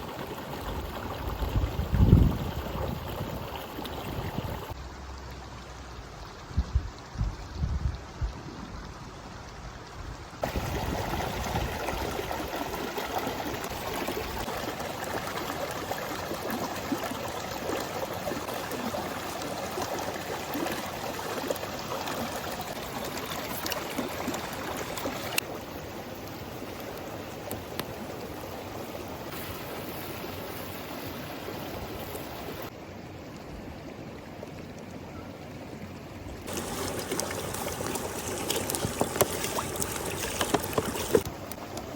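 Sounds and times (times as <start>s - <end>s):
running water rushing: 0.0s - 5.8s, 10.4s - 32.8s, 36.2s - 41.9s.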